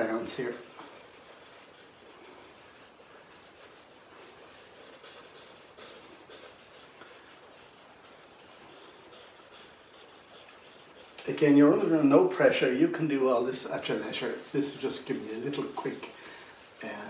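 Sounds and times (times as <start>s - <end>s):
paintbrush scrubbing over paper: 0.0s - 17.0s.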